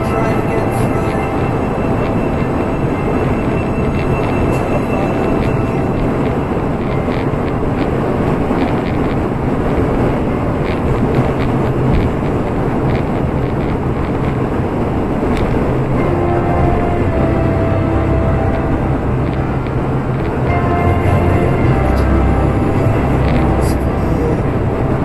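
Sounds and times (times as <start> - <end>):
road and wind noise in car: 0.0 - 25.0.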